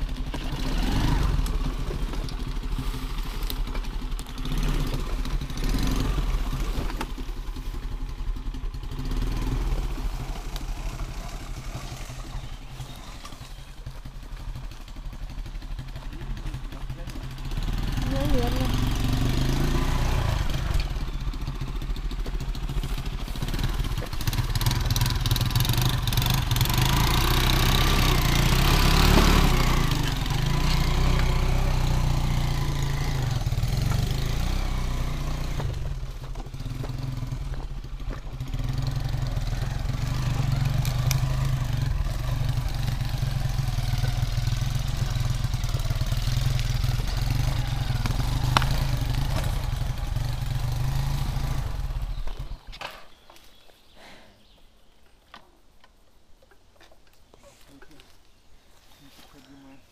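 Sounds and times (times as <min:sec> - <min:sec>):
small motorcycle engine revving: 0:00.0 - 0:53.2
knocks and rattles over bumps: 0:00.0 - 0:53.4.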